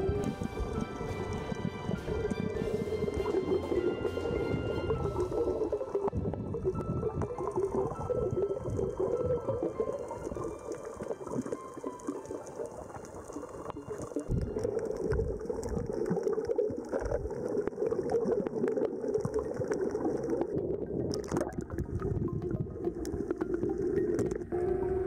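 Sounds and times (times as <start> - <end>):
fine continuous crackle: 0.0 - 25.0
muffled underwater rush: 0.0 - 25.0.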